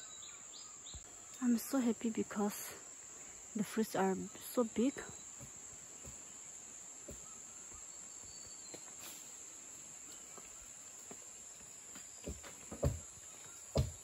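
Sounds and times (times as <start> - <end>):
insect chorus buzzing: 0.0 - 14.0.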